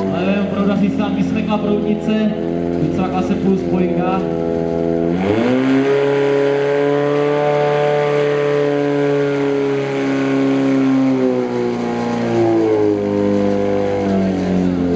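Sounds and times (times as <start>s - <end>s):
pump engine running at high revs: 0.0s - 14.9s.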